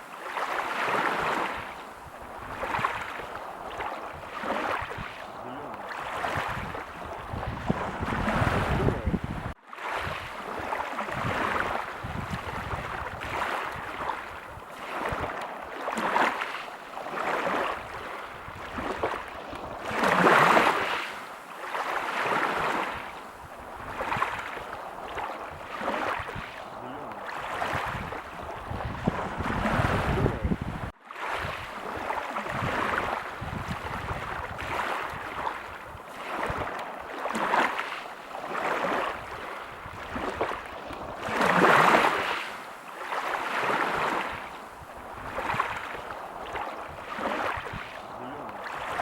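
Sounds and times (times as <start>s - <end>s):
small waves washing onto beach: 0.0s - 49.0s.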